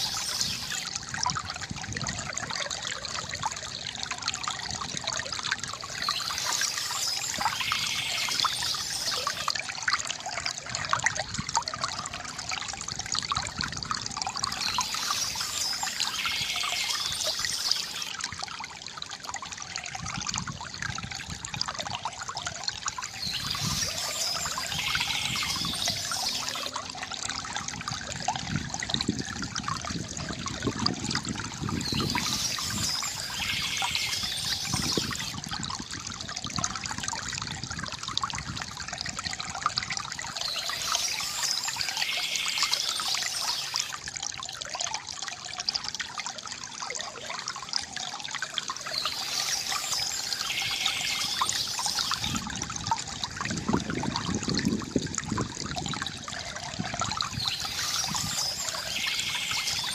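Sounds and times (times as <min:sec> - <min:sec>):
river water gurgling: 0:00.0 - 0:59.9.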